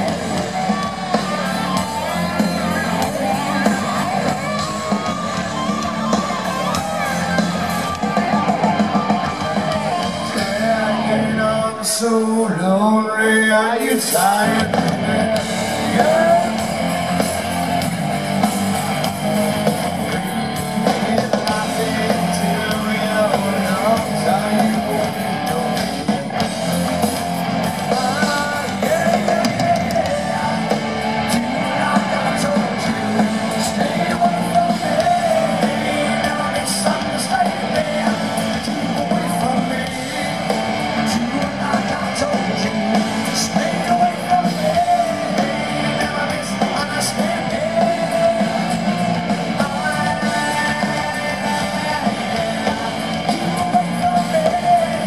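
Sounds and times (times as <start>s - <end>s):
distorted electric guitar lead: 0.0s - 55.0s
live hard rock band: 0.0s - 55.0s
person singing: 0.0s - 55.0s.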